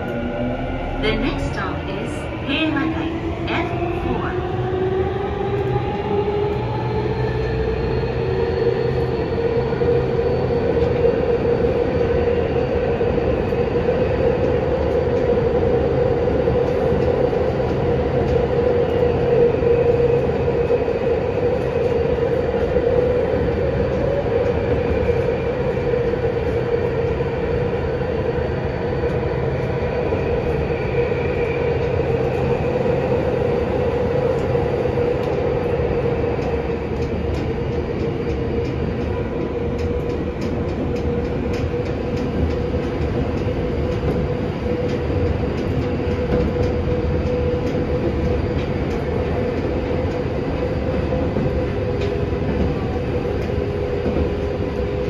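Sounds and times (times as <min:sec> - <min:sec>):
train wheel and rail rumble: 0:00.0 - 0:55.0.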